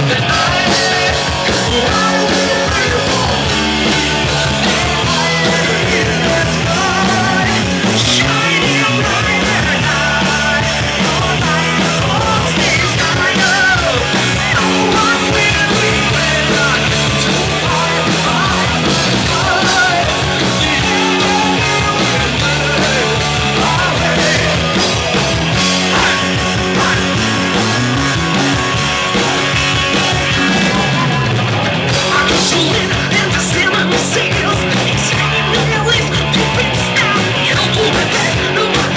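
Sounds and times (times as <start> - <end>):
heavy metal band playing: 0.0 - 38.9.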